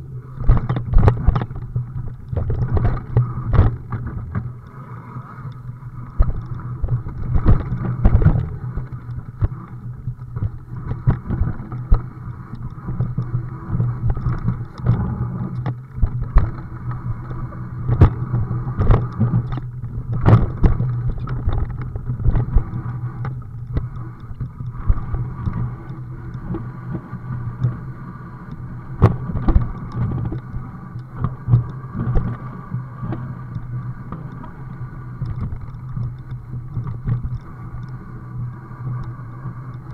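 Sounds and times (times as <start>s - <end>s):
bike rattling over stony trail: 0.0s - 4.7s, 5.4s - 38.0s
steady low hum: 0.0s - 39.9s.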